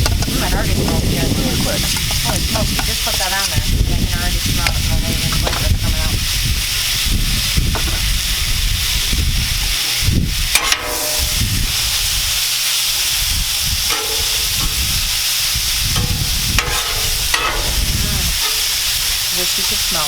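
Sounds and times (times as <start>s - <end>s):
low rumble: 0.0s - 12.4s, 13.2s - 19.3s
fish sizzling on griddle: 0.0s - 20.0s.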